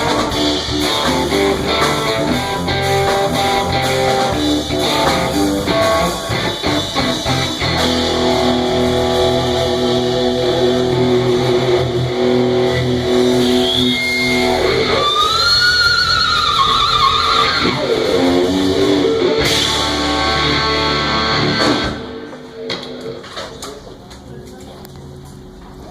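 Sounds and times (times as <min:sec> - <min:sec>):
guitar playing: 0:00.0 - 0:22.6.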